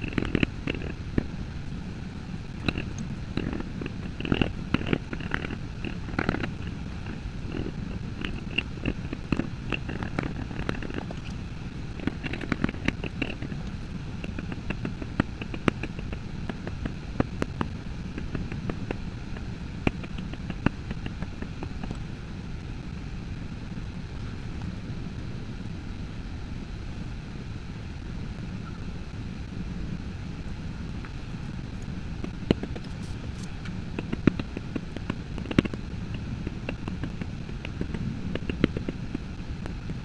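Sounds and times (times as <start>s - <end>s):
low steady rumble: 0.0s - 40.0s.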